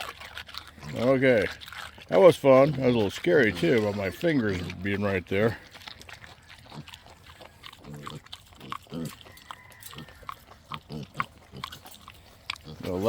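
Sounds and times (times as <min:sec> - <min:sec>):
clicks of eating: 0:00.0 - 0:13.0
pigs grunting: 0:00.0 - 0:13.0.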